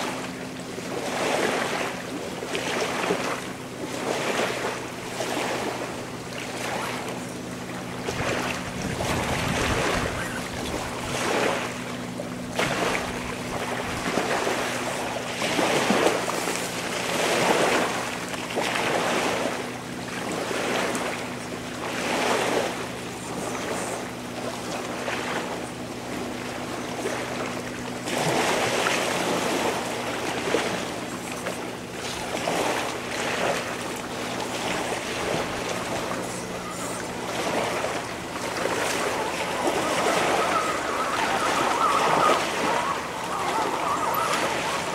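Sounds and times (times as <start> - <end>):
steady low hum: 0.0 - 44.9
waves washing onto stony shore: 0.0 - 44.9.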